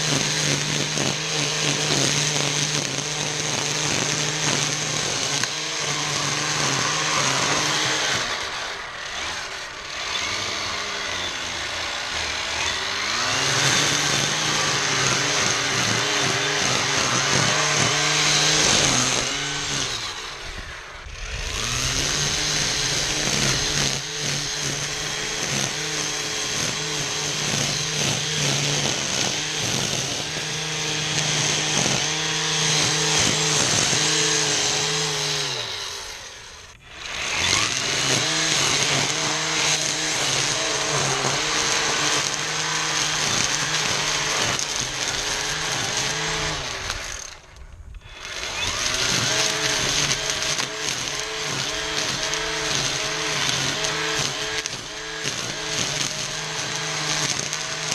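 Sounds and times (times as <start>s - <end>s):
string trimmer motor whine: 0.0s - 57.9s
trimmer line cutting weeds: 0.0s - 57.9s.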